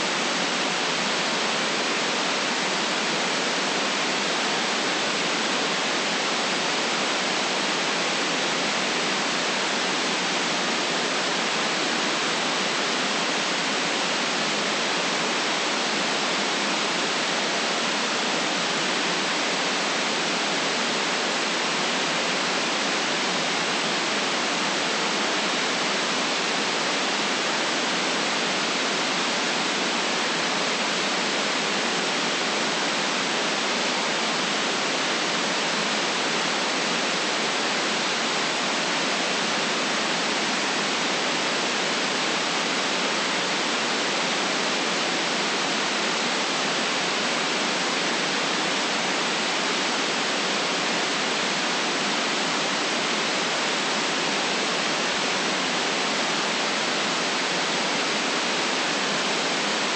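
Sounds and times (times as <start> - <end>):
synthetic white noise hiss: 0.0 - 59.9.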